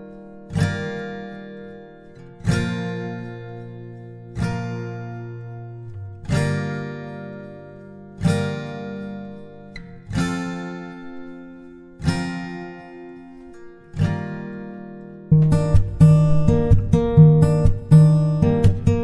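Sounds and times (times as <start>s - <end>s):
acoustic guitar strums: 0.0s - 19.0s.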